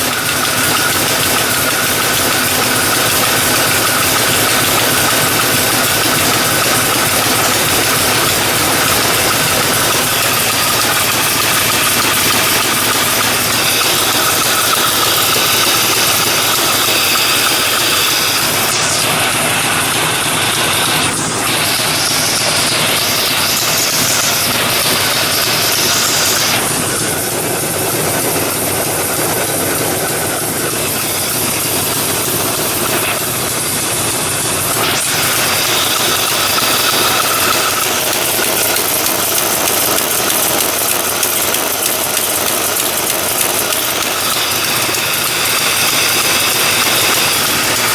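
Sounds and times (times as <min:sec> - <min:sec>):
engine idling with ticking: 0:00.0 - 0:47.9.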